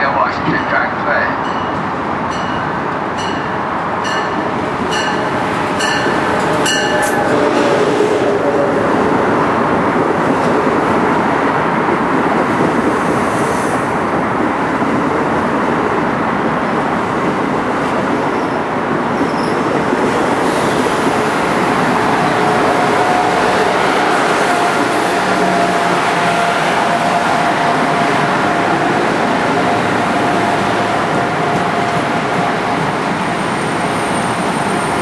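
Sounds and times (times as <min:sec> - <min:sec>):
train wheels running on rail: 0:00.3 - 0:35.0.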